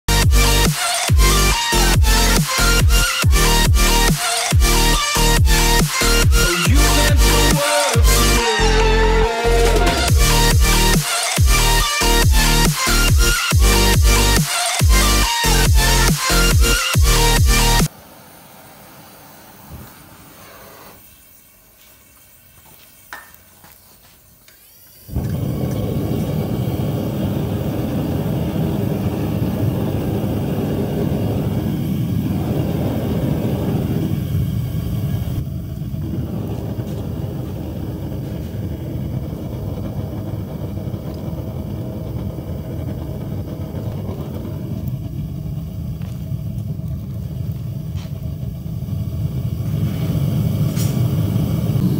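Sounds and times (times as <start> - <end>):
gas burner roaring: 0.1 - 51.9.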